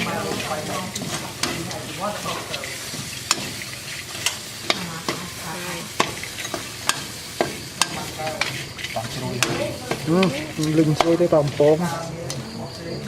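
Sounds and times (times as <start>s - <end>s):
food sizzling in a pan: 0.0s - 13.0s
utensil clicking against pan: 0.2s - 12.5s.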